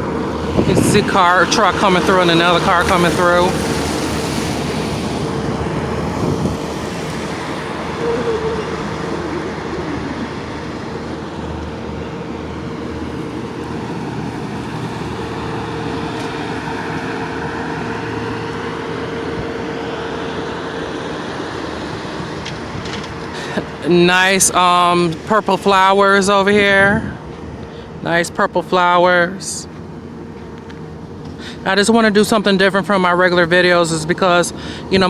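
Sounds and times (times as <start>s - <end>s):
highway traffic rushing: 0.0s - 35.0s.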